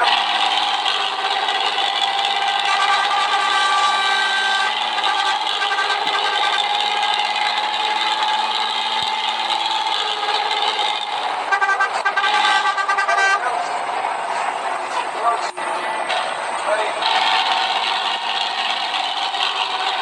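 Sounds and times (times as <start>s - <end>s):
diesel bus engine running: 0.0s - 20.0s.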